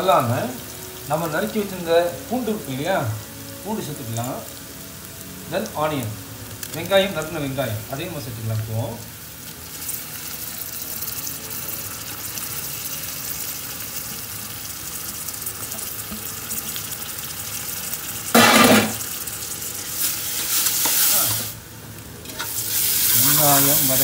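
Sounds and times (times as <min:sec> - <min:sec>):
onions frying in a pot: 0:00.0 - 0:24.0.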